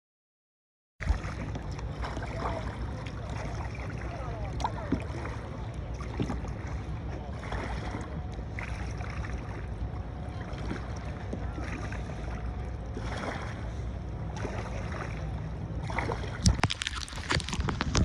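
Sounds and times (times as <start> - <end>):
paddle strokes swishing water: 1.0 - 18.0
wind rumble on microphone: 1.0 - 18.0.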